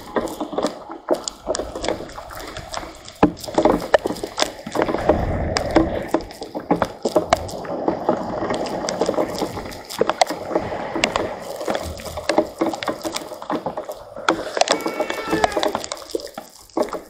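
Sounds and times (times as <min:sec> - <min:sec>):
raindrops pattering: 0:00.0 - 0:17.0.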